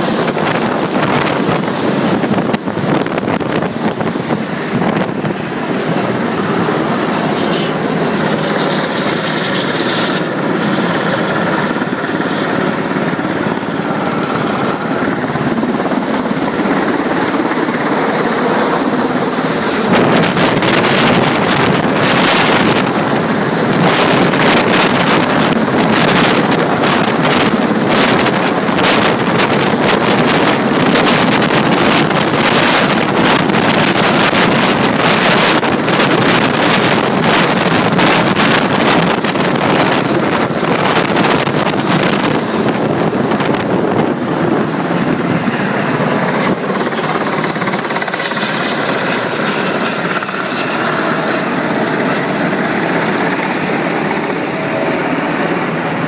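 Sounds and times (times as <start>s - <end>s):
helicopter rotor blades thudding: 0.0s - 56.0s
rotor downwash buffeting microphone: 0.0s - 56.0s.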